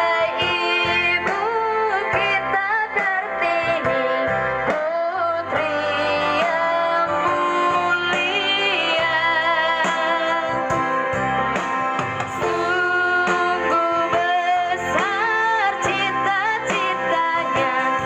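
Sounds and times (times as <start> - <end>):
woman singing with vibrato: 0.0 - 10.8, 12.4 - 18.0
instrumental backing music: 0.0 - 18.0.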